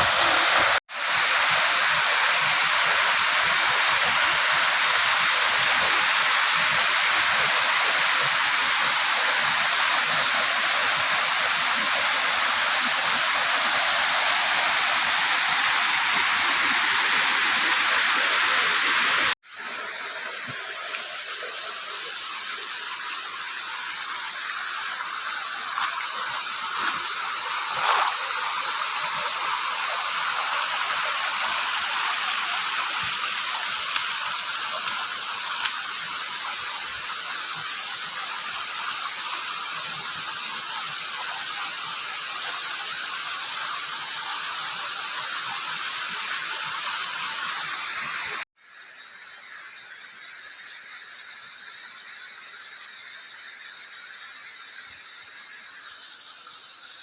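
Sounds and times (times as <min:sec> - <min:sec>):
waterfall rushing: 0:00.0 - 0:48.5.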